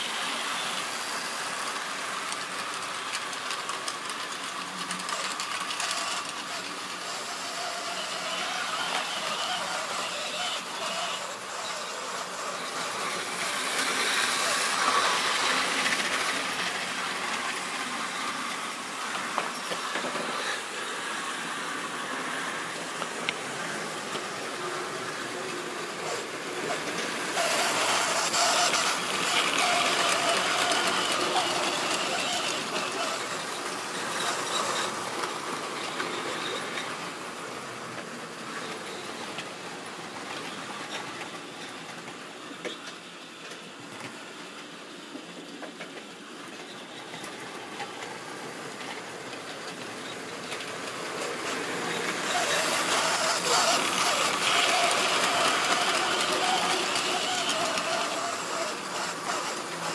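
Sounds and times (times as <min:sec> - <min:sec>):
model train rattling on track: 0:00.0 - 0:59.9.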